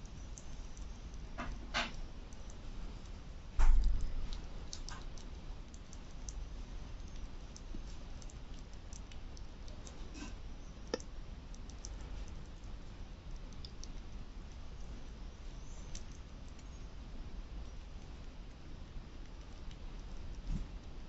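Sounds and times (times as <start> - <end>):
small clicks and smacks: 0.0 - 16.9, 17.6 - 21.0
rat licking and nibbling: 0.0 - 21.0.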